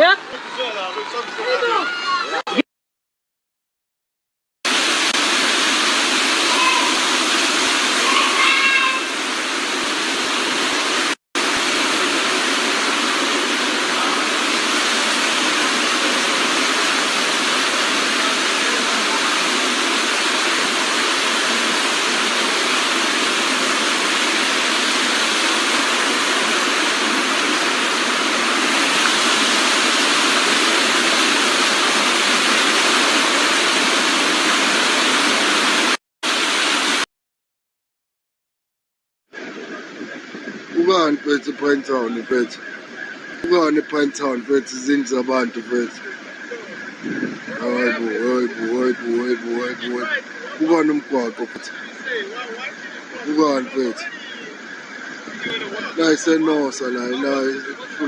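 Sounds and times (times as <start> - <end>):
floodwater rushing: 4.7 - 37.0, 39.4 - 58.0.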